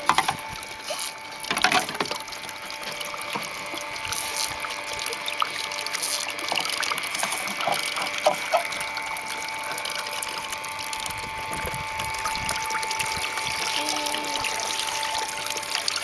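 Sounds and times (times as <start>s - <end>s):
water pouring and splashing: 0.0s - 16.0s.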